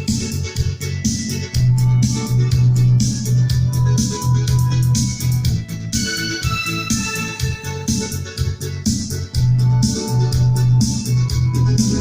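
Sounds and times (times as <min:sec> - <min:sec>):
music with heavy bass and guitar: 0:00.0 - 0:12.0.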